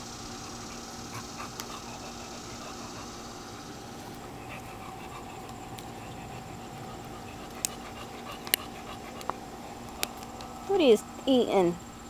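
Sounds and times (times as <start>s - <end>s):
dog panting: 0.2s - 10.6s.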